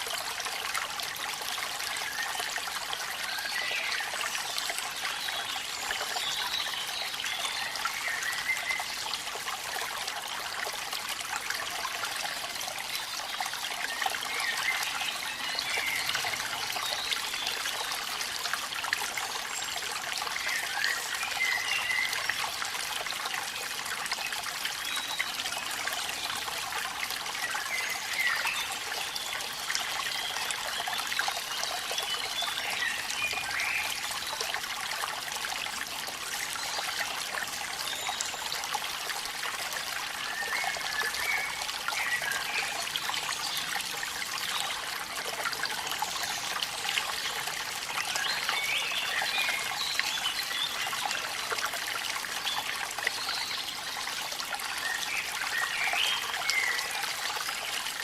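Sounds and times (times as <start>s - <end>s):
water trickling: 0.0s - 58.0s
waterfall: 0.0s - 58.0s.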